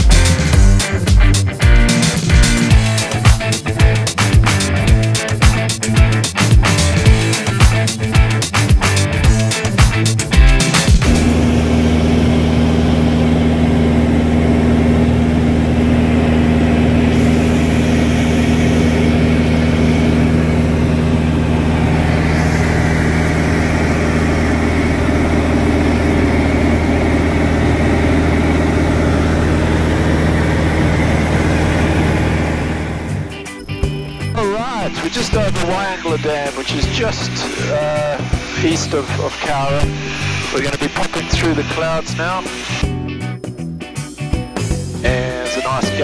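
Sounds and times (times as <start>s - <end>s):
music: 0.0s - 46.0s
aircraft engine drone in cockpit: 0.1s - 46.0s.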